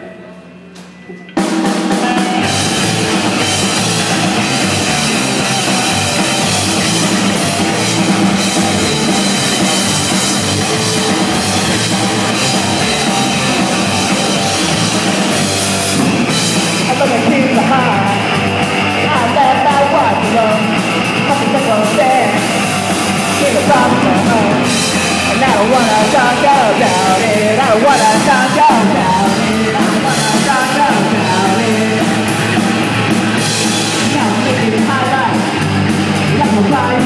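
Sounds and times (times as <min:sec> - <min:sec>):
live punk rock band: 0:01.4 - 0:37.0.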